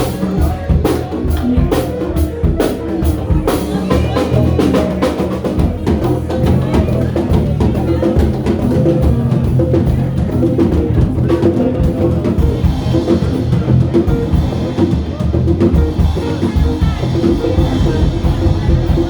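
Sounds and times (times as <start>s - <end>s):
band playing live: 0.0s - 19.0s
drum kit beat: 0.0s - 19.0s
low bass notes: 0.0s - 19.0s.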